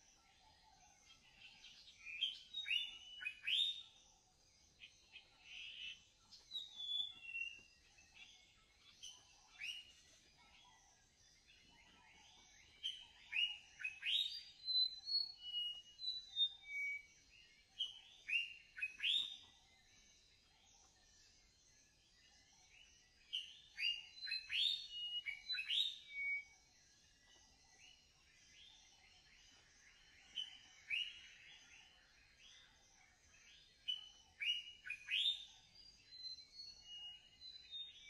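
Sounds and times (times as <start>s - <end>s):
birds singing and chirping: 0.0s - 38.0s.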